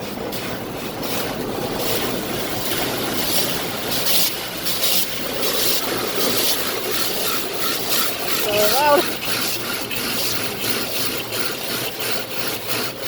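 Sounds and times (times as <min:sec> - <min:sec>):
car wash brushes swishing: 0:00.0 - 0:13.0
car wash water spray: 0:00.0 - 0:13.0.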